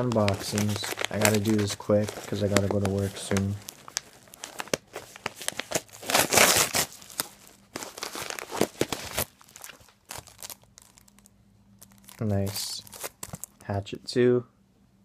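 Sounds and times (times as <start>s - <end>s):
envelope tearing and crinkling: 0.0s - 13.6s.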